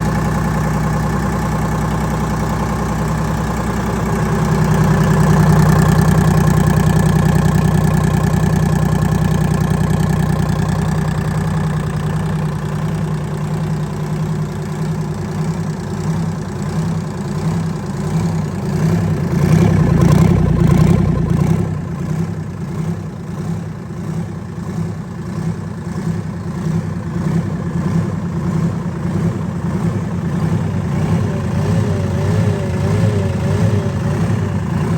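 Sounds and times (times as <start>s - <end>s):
diesel engine revving and idling: 0.0s - 34.9s.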